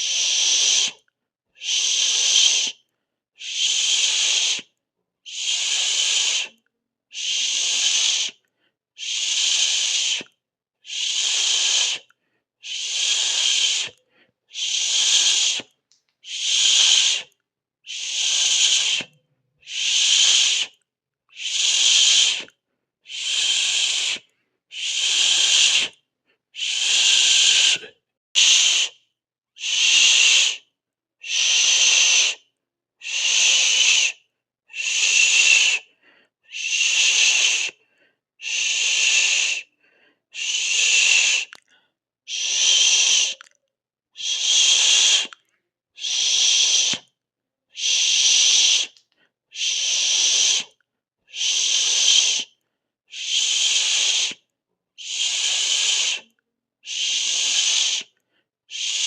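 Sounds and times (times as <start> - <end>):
person hissing through mouth: 0.0 - 1.0, 1.6 - 2.8, 3.4 - 4.7, 5.3 - 8.4, 9.0 - 29.0, 29.6 - 41.7, 42.3 - 43.5, 44.2 - 45.4, 46.0 - 54.4, 55.0 - 59.0.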